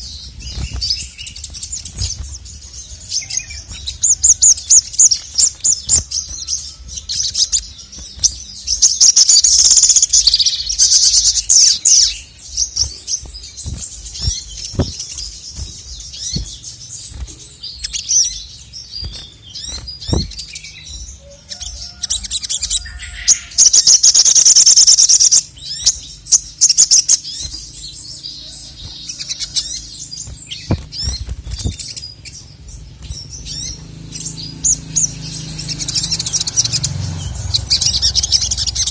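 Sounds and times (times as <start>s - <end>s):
bird chattering trills: 0.0s - 38.9s.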